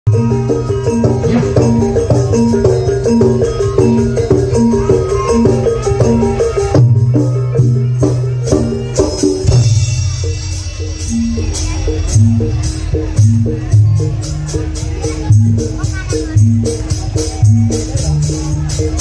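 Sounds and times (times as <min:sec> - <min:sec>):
drums: 0:00.1 - 0:19.0
jingling percussion: 0:00.1 - 0:19.0
pitched percussion pattern: 0:00.1 - 0:19.0.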